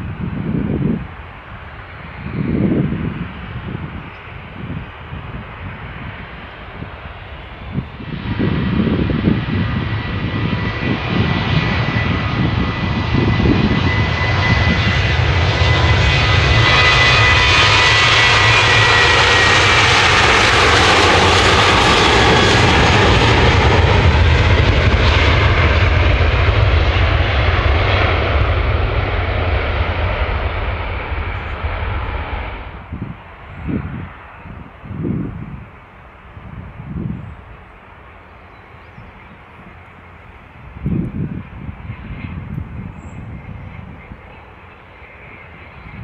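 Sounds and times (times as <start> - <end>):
jet plane taking off: 0.0 - 46.0.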